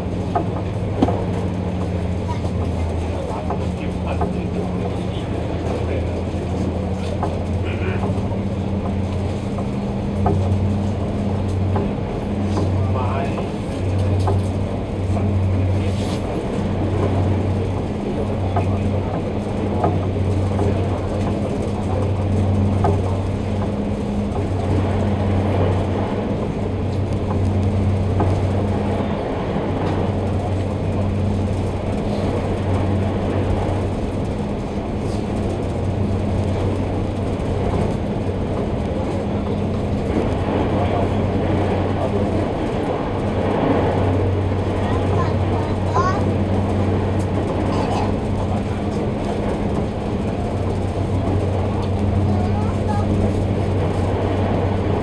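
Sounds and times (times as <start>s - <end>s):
ferry engine drone: 0.0s - 55.0s
hull rushing through water: 0.0s - 55.0s.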